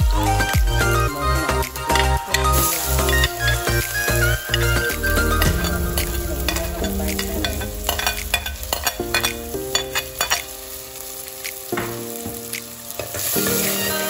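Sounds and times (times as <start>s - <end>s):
soft background music: 0.0s - 14.0s
food sizzling in hot oil: 0.3s - 14.0s.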